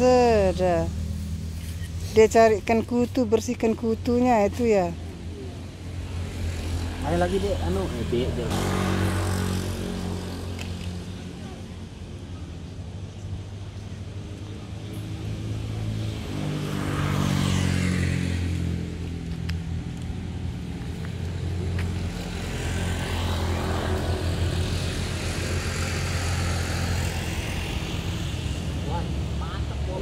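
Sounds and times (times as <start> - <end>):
vehicles passing: 0.0 - 30.0.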